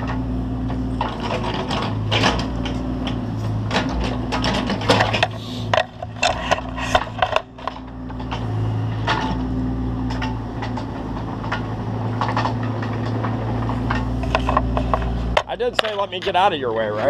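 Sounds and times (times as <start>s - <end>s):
knocks and scrapes: 0.0s - 16.5s
excavator engine running: 0.0s - 17.0s.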